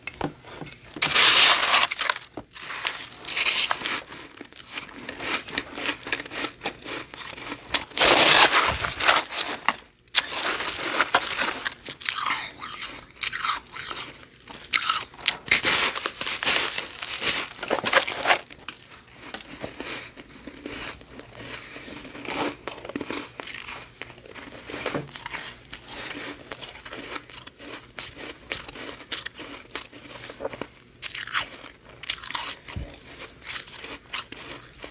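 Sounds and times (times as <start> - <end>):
frost being bitten and chewed: 1.0 - 34.9.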